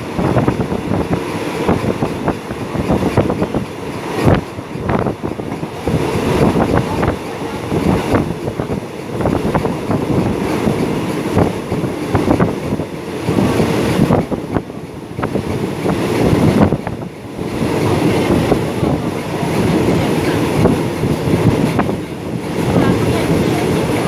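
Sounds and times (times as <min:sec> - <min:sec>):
train rumble and rushing air: 0:00.0 - 0:24.0.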